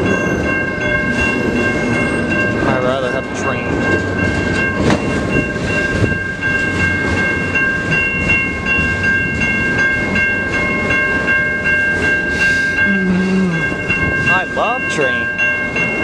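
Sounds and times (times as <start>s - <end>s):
crossing warning bell ringing: 0.0s - 16.0s
freight train rumbling: 0.0s - 16.0s.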